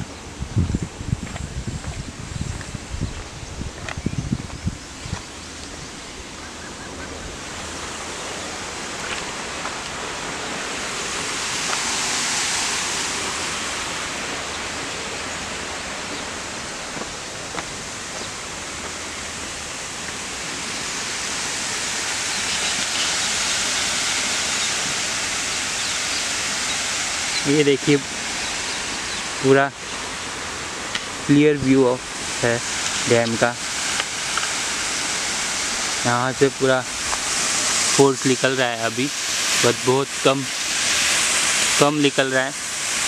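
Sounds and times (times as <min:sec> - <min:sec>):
water rushing through sluice gates: 0:05.2 - 0:43.0.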